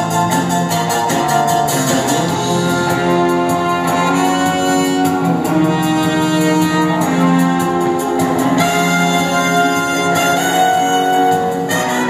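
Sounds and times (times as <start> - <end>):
orchestral music with strings: 0.0 - 12.0.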